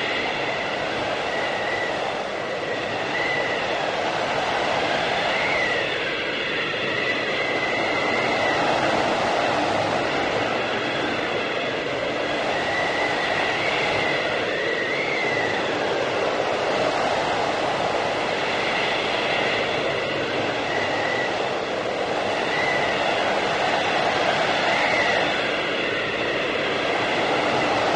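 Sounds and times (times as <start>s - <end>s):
blizzard wind rushing: 0.0s - 27.9s
high thin wind whistle: 0.0s - 27.9s.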